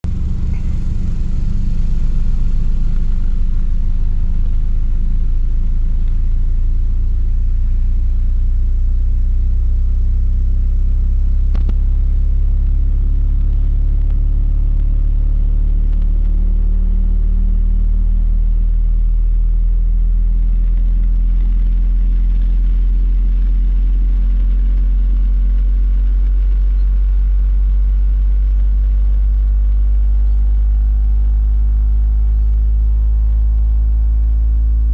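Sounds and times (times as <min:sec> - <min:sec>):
subwoofer deep bass tone: 0:00.0 - 0:34.9.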